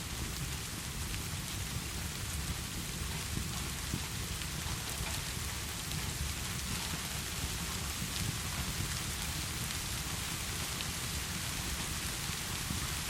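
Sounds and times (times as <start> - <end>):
heavy rain: 0.0 - 13.0
low constant rumble: 0.9 - 13.0.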